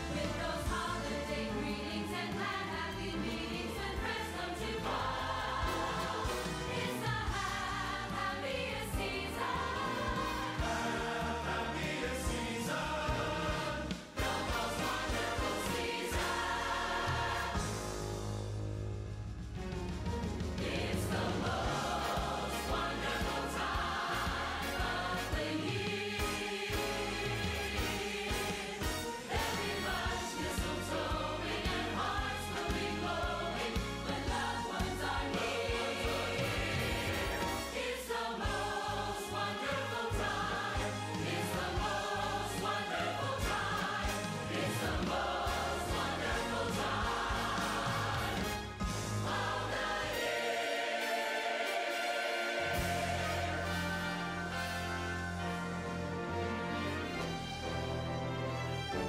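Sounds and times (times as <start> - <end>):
choir singing christmas music: 0.0 - 19.5, 20.2 - 59.0.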